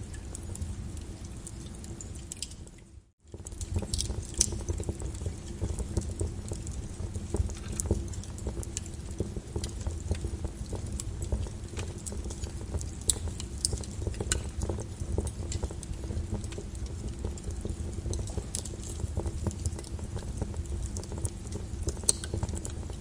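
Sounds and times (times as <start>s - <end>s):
lava crackling and popping: 0.0s - 23.0s
low steady rumble: 0.0s - 23.0s.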